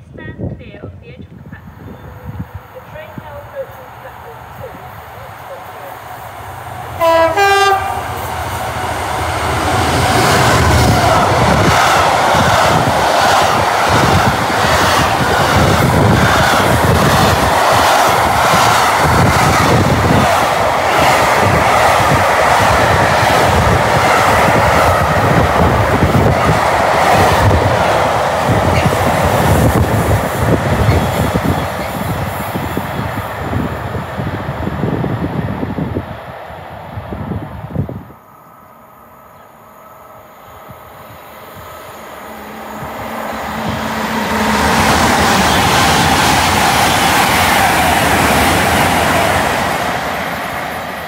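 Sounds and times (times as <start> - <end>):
diesel locomotive passing: 0.4 - 51.0.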